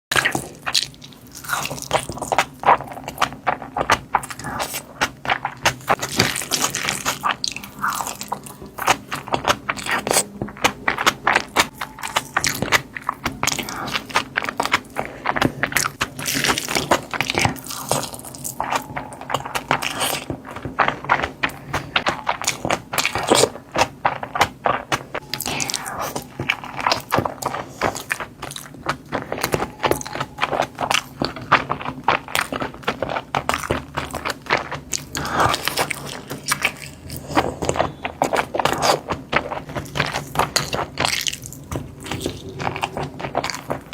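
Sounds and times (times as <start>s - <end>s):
close chewing mouth clicks: 0.1s - 43.9s.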